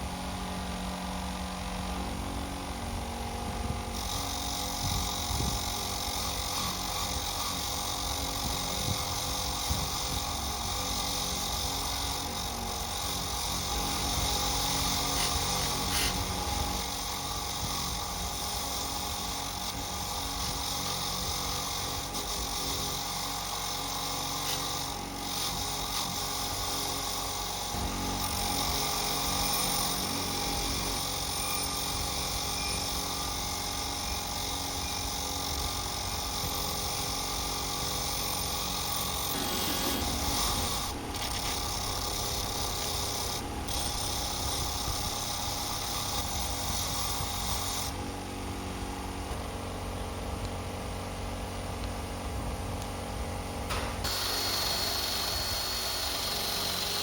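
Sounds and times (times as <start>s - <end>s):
electric power tool on metal: 0.0s - 49.5s, 53.7s - 57.0s.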